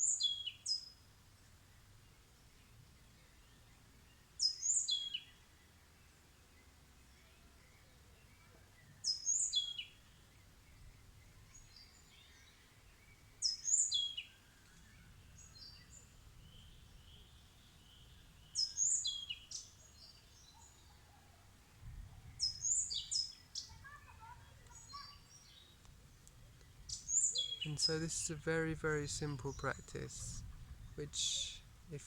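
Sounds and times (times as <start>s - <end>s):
faint bird chirps: 0.0s - 28.4s.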